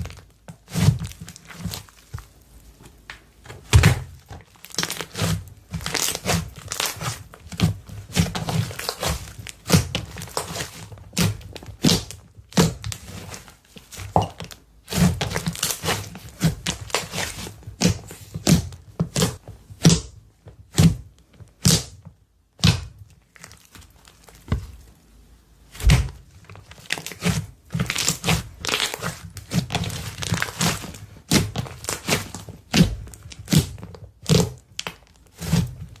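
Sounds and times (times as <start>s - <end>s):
slime crinkly noise: 0.0s - 3.1s, 3.7s - 19.4s, 23.2s - 25.0s, 25.8s - 36.0s.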